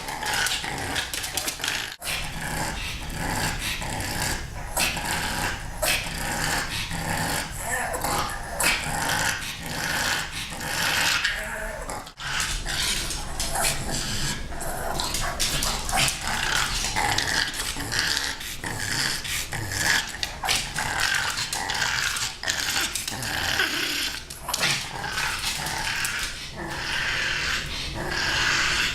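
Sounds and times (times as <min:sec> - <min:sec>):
pug making breathy vocal noises: 0:00.0 - 0:28.9.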